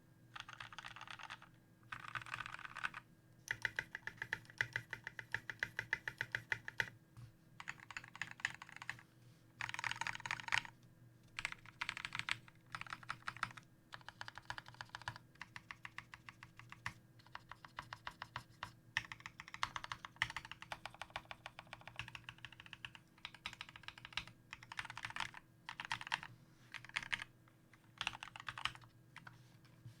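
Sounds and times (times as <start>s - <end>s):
faint steady hum: 0.0s - 30.0s
fast typing on mechanical keyboard: 0.4s - 6.9s, 7.6s - 9.0s, 9.6s - 10.7s, 11.4s - 29.3s.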